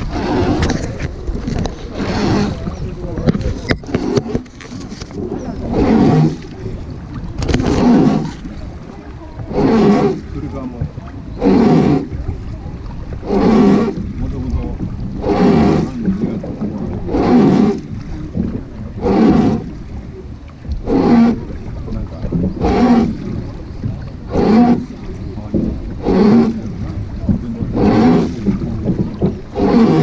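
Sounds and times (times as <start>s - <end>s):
low water rumble: 0.0s - 30.0s
oar stroke creaking: 0.0s - 30.0s.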